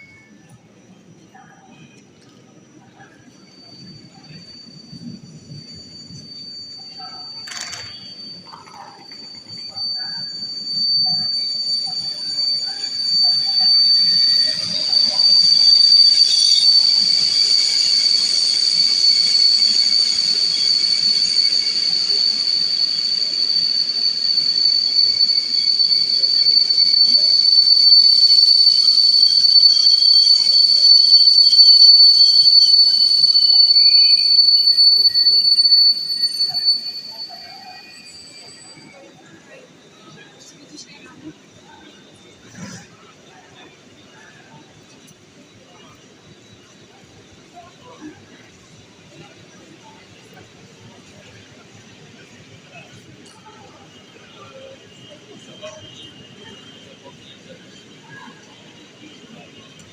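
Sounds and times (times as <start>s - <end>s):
train wheel squeal: 0.0s - 59.9s.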